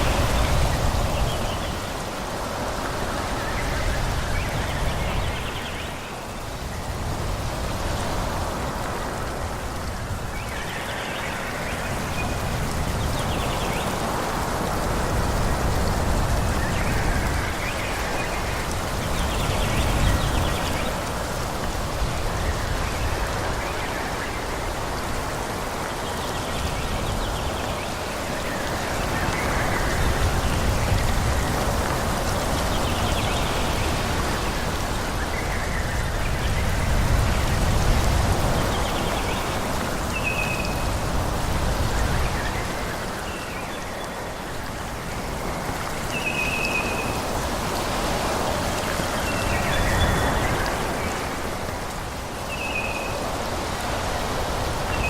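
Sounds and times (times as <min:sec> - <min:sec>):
wind rushing through trees: 0:00.0 - 0:55.0.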